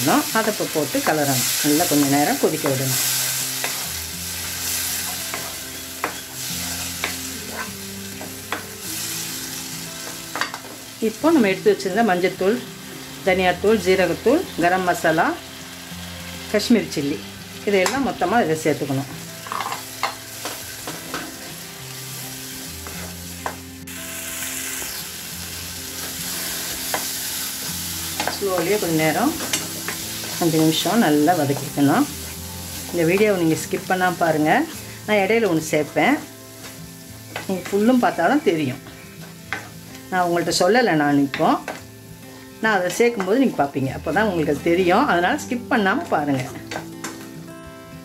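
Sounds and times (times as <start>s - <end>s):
sauce sizzling in butter: 0.0s - 48.0s
soft background music: 0.0s - 48.0s.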